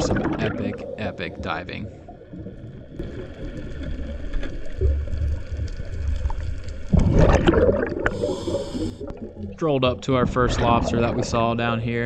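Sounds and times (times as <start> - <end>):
low underwater rumble: 0.0 - 11.8
exhaled bubbles: 0.0 - 11.9.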